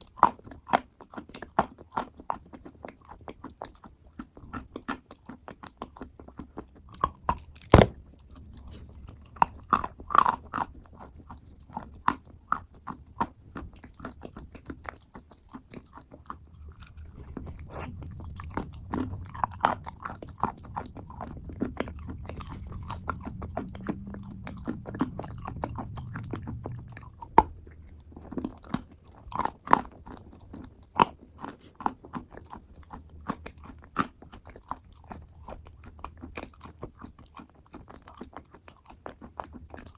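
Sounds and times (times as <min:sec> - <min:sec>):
person chewing crunchy clay: 0:00.0 - 0:39.9.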